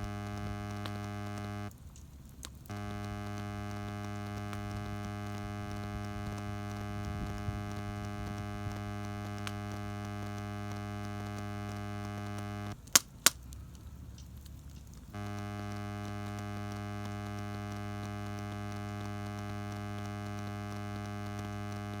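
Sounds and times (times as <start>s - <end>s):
electrical hum: 0.0s - 12.8s, 13.4s - 22.0s
sharp clicks: 0.0s - 22.0s.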